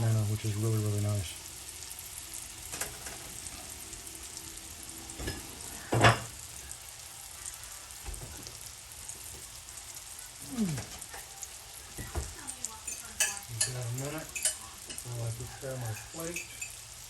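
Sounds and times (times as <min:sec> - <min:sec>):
bananas sizzling in a pan: 0:00.0 - 0:17.0.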